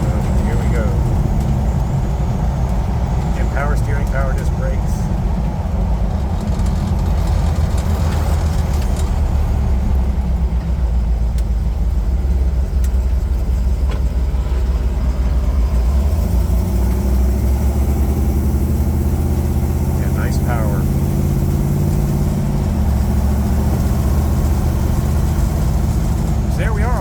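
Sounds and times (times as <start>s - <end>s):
engine rumbling while driving: 0.0s - 27.0s.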